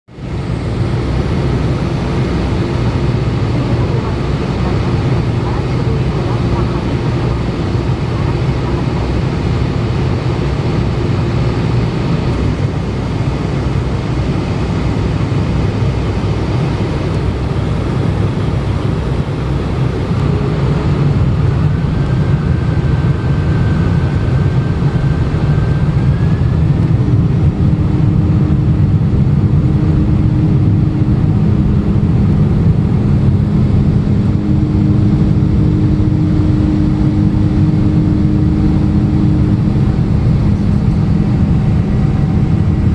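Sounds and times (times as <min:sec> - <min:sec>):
jet engines rumbling: 0:00.1 - 0:42.9
steady engine tones: 0:00.1 - 0:42.9.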